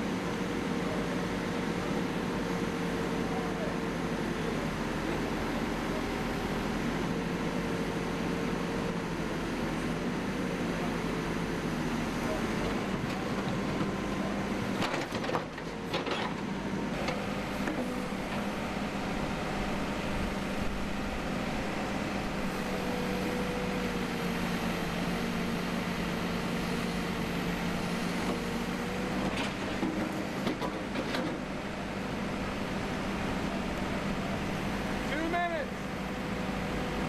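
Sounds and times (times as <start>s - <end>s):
backhoe diesel engine running: 0.0s - 37.0s.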